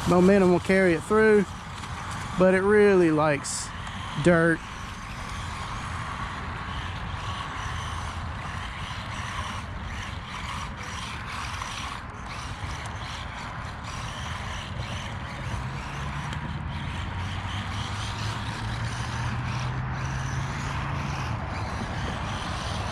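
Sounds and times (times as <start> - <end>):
toy truck motor whine: 0.0 - 22.9
tyres on grass and dirt: 0.0 - 22.9.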